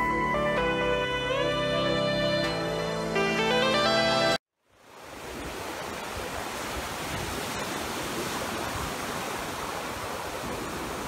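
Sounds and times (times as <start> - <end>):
ocean surf breaking: 2.1 - 11.0.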